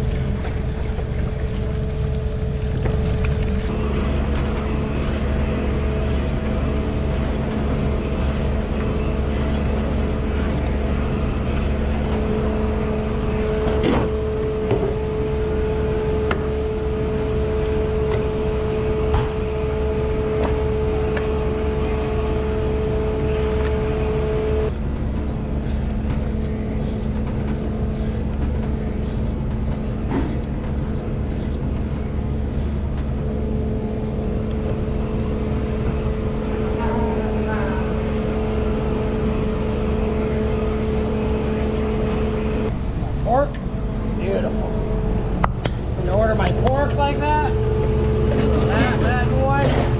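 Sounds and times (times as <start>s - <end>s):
kitchen machinery humming: 0.0s - 49.9s.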